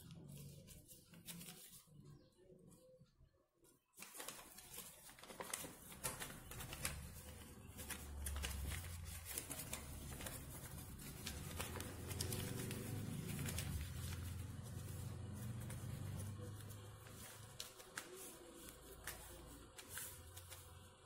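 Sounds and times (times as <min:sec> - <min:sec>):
paper crackling and rustling: 0:00.0 - 0:02.3, 0:03.9 - 0:21.0.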